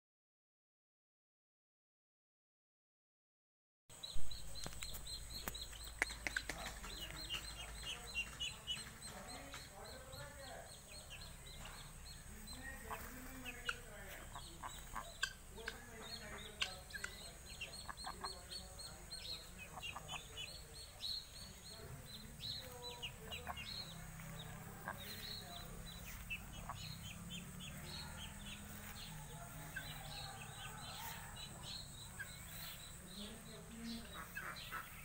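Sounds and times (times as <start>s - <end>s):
guineafowl calling: 4.2s - 35.0s.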